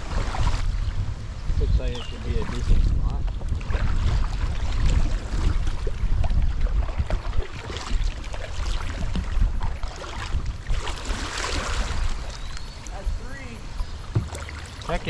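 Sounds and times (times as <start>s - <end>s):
water splashing: 0.0s - 1.1s, 1.8s - 15.0s
wind rumbling on microphone: 0.0s - 15.0s.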